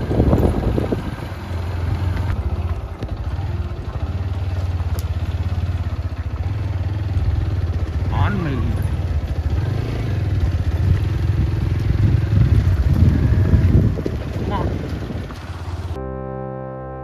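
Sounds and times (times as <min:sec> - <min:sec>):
motor scooter engine running: 0:00.0 - 0:16.2.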